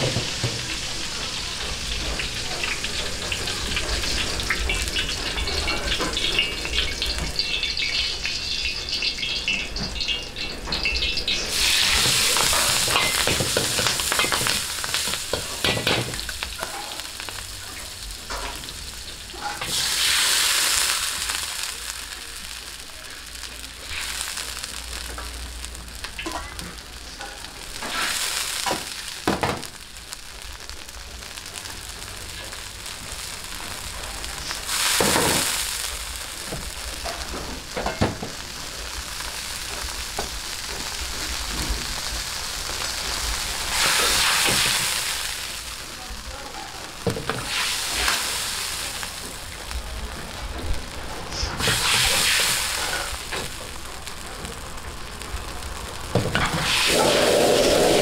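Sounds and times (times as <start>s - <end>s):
vegetables sizzling in hot oil: 0.0s - 58.0s.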